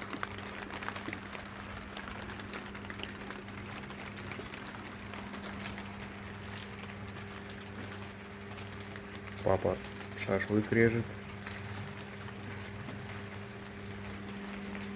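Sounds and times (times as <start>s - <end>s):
rain tapping on an awning: 0.0s - 14.9s.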